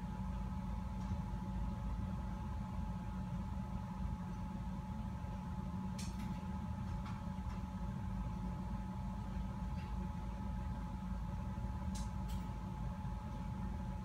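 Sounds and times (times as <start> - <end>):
mechanical hum with high whine: 0.0 - 14.0.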